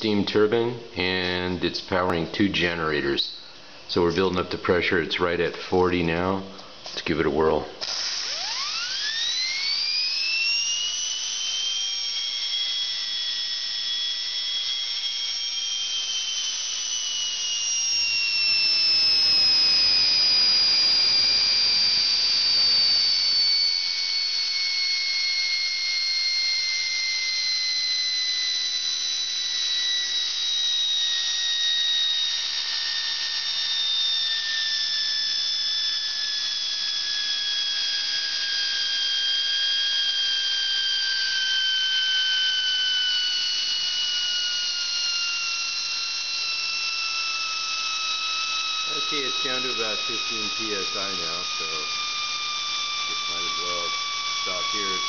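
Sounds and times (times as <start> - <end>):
steam turbine high-pitched whine: 0.0 - 55.0.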